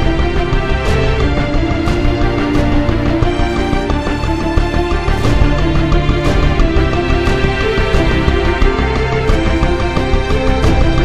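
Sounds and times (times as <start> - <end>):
film soundtrack music: 0.0 - 11.0.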